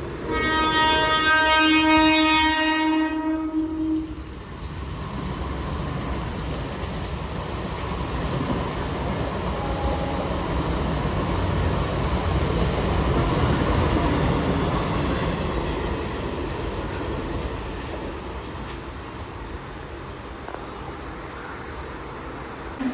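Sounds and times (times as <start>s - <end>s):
electric train rumbling along track: 0.0s - 22.9s.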